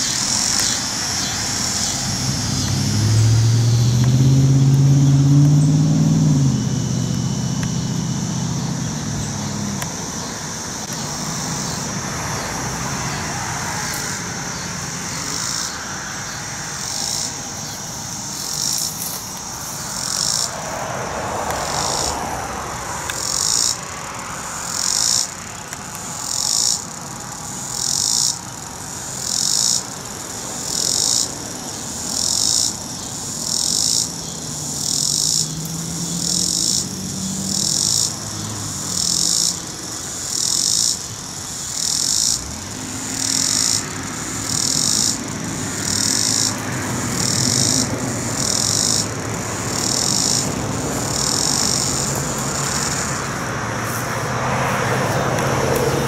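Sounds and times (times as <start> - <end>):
cicada buzzing: 0.0 - 56.0.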